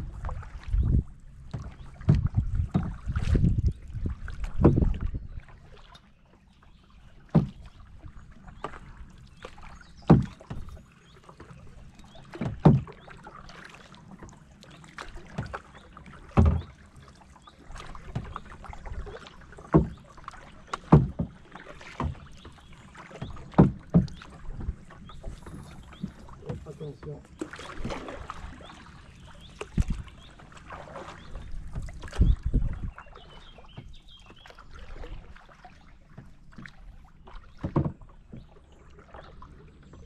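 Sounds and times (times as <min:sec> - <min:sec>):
paddle knocking: 0:00.0 - 0:05.8, 0:07.1 - 0:40.0
paddle splashing in water: 0:00.0 - 0:40.0.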